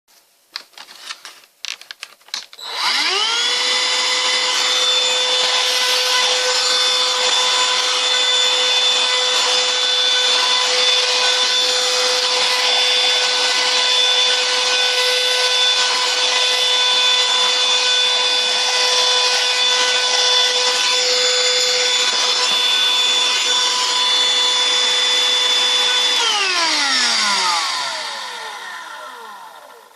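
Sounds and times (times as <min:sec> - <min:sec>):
handheld vacuum whining: 0:01.8 - 0:29.9.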